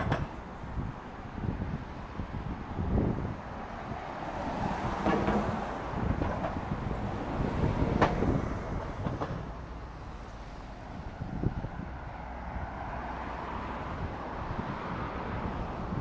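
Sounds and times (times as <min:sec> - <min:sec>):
passing vehicles rumble: 0:00.0 - 0:16.0
wind on microphone: 0:00.0 - 0:16.0.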